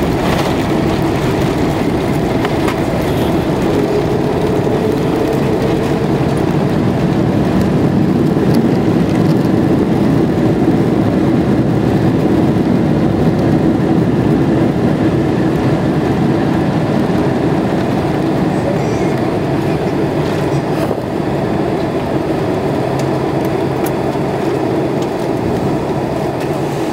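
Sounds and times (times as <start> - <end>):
airliner cabin engine rumble: 0.0 - 26.9.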